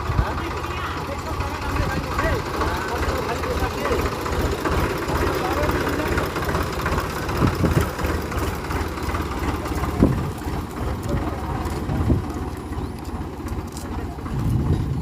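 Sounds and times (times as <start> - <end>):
loud engine chugs: 0.0 - 15.0
tractor engine idling: 0.0 - 15.0.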